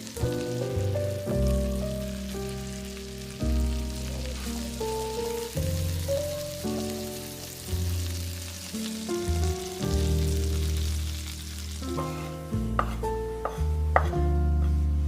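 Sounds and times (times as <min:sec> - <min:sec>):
background music of held chords: 0:00.0 - 0:15.0
food sizzling in a pan: 0:00.0 - 0:15.0.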